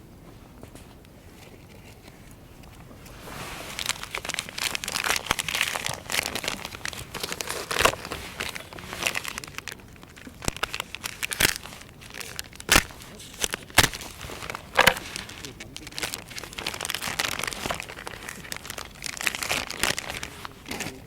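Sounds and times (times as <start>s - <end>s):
packaging crinkling: 3.6s - 21.0s.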